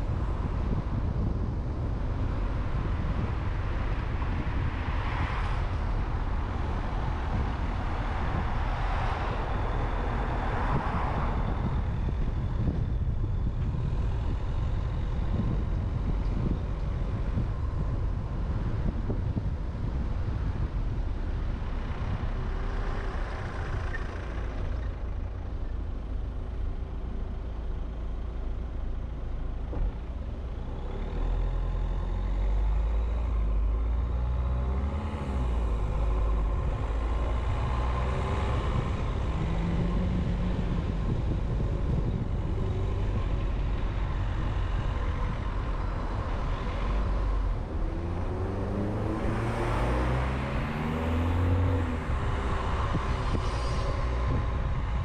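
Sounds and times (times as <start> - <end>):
low road rumble: 0.0 - 55.0.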